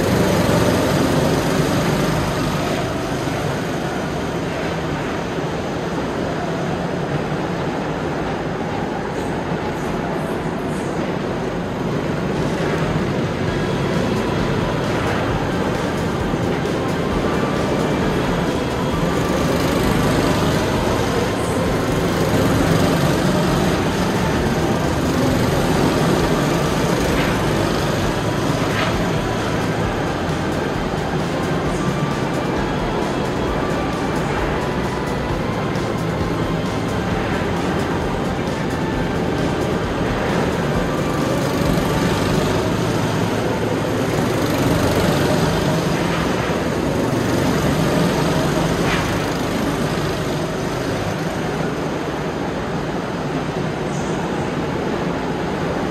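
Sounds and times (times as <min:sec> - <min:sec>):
go-kart engines running: 0:00.0 - 0:55.9.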